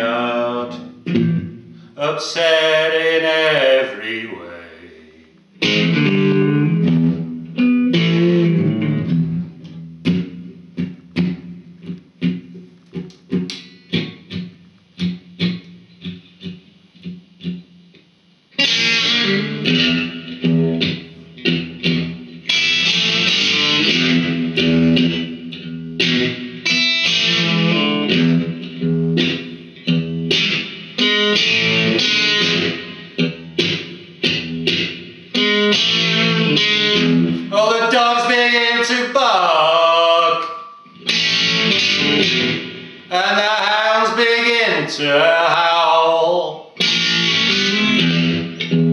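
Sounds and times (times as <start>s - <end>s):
electric guitar blues playing: 0.0s - 48.9s.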